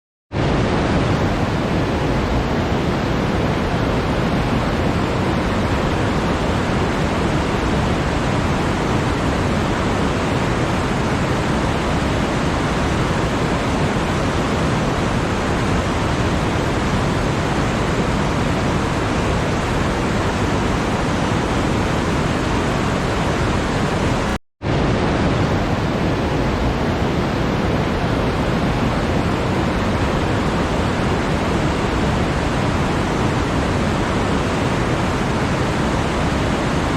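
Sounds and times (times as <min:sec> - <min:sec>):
steady rushing noise: 0:00.3 - 0:36.9.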